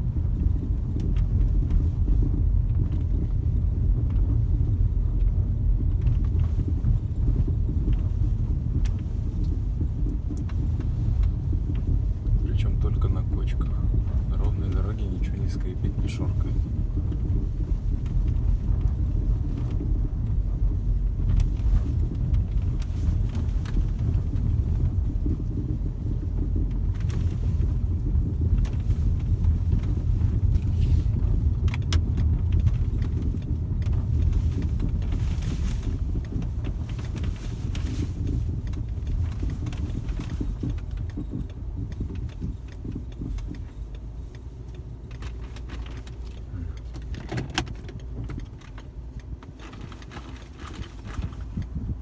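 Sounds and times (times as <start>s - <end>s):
road rumble inside car: 0.0s - 52.0s.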